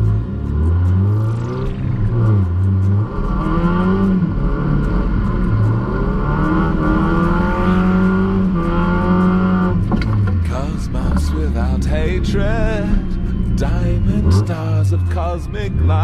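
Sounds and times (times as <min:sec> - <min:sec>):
car engine revving: 0:00.0 - 0:16.0
music playing: 0:00.0 - 0:16.0.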